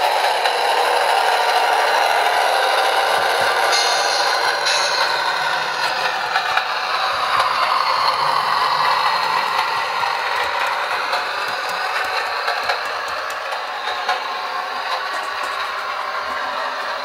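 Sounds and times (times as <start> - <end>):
diesel engine sound from small speaker: 0.0 - 17.0
model train clattering on track: 0.0 - 17.0.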